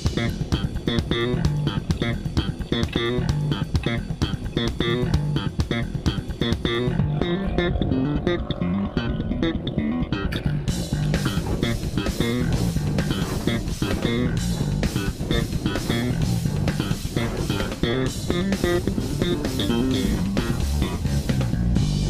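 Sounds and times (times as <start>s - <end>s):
instrumental music with guitars: 0.0s - 22.0s.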